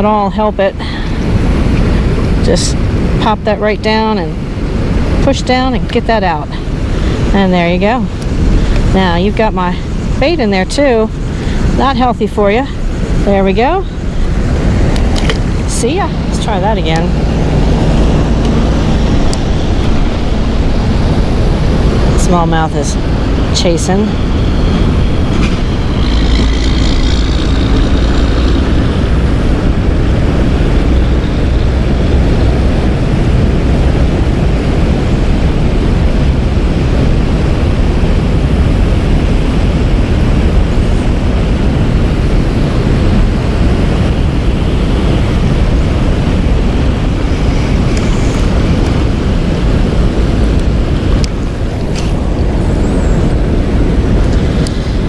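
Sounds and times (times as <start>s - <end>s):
deep rumble: 0.0s - 55.0s
river current rushing: 4.2s - 7.4s, 8.1s - 9.0s, 11.0s - 55.0s.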